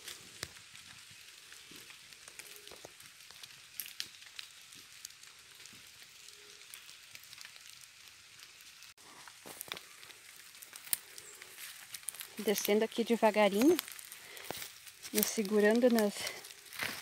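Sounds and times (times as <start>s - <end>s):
drizzle on leaves: 0.0s - 17.0s
footsteps on wet leaves and twigs: 0.0s - 17.0s.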